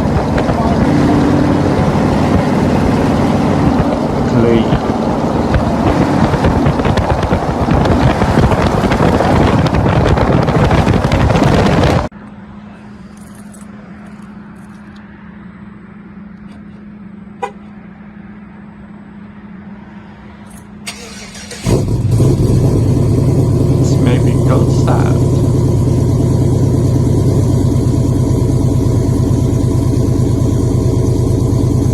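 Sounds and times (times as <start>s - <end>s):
pickup truck engine: 0.0s - 19.8s, 20.4s - 31.9s.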